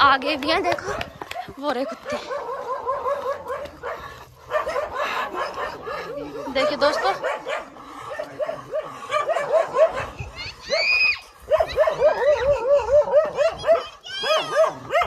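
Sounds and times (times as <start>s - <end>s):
dogs barking: 0.0s - 15.0s
dog yelping: 0.8s - 15.0s.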